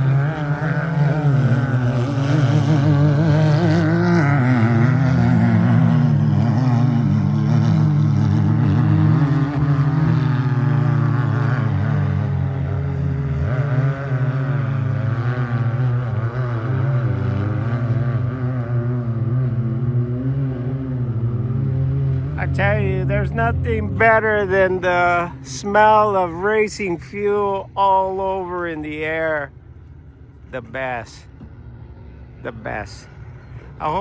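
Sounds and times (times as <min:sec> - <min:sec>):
off-road vehicle engines droning: 0:00.0 - 0:34.0.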